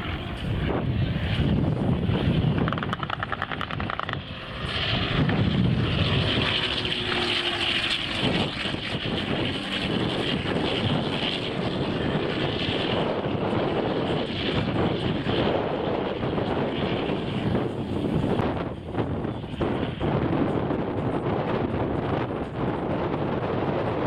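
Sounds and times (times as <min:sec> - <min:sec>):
propeller plane flying over: 0:00.0 - 0:24.0.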